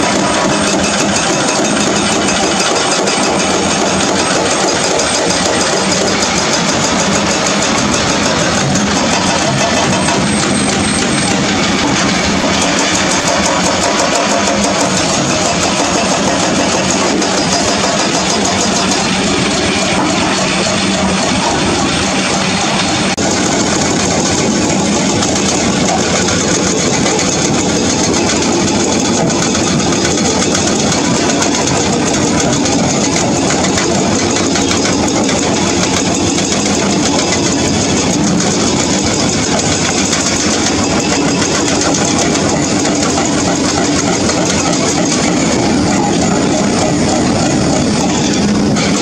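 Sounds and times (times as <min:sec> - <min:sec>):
diesel engine running: 0:00.0 - 0:49.0
hydraulic breaker hammering rock: 0:00.0 - 0:49.0.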